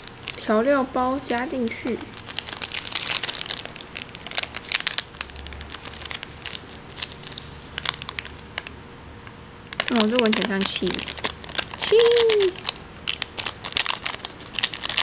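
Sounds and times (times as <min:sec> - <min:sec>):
seasoning packet crinkling: 0:01.8 - 0:08.7, 0:09.7 - 0:15.0.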